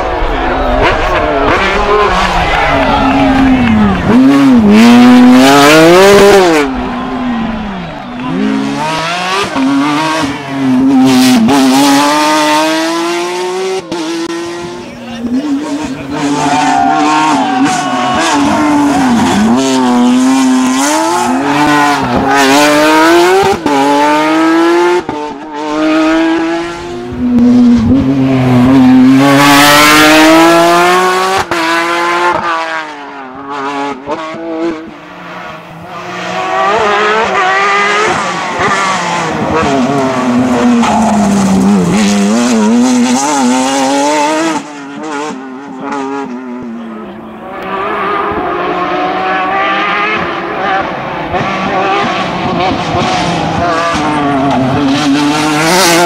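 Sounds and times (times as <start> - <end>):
rally cars passing at speed: 0.0 - 56.0.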